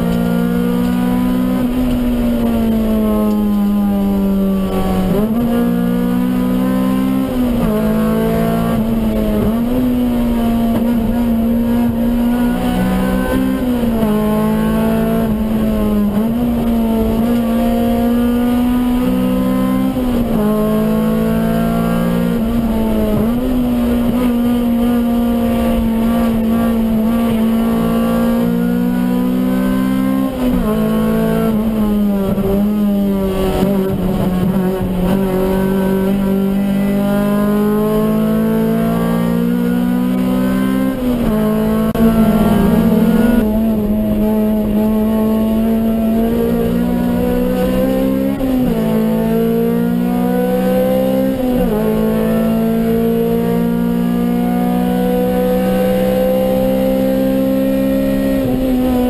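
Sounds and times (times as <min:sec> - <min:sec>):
car engine at high revs: 0:00.0 - 0:59.0.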